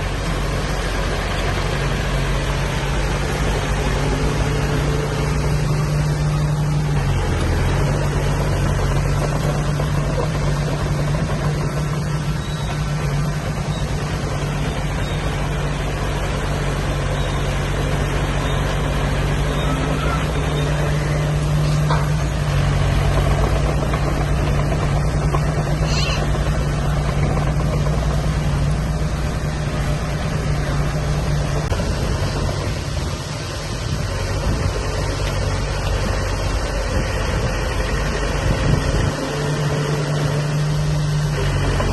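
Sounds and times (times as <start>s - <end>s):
heavy machinery diesel engine: 0.0s - 41.9s.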